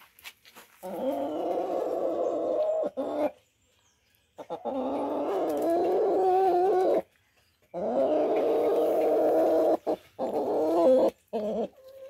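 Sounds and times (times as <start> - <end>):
chicken wavering calls: 0.8 - 3.4, 4.4 - 12.0.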